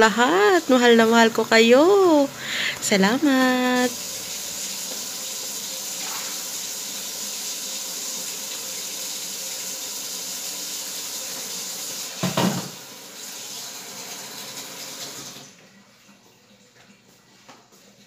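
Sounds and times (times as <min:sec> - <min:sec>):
water running from a tap: 0:00.0 - 0:15.6.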